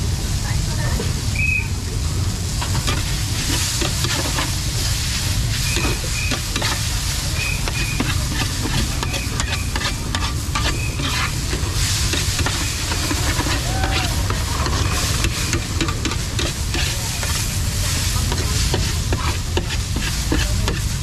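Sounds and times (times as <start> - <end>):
food sizzling in a pan: 0.0 - 21.0
steady low rumble: 0.0 - 21.0
metal utensils scraping a pan: 2.6 - 21.0.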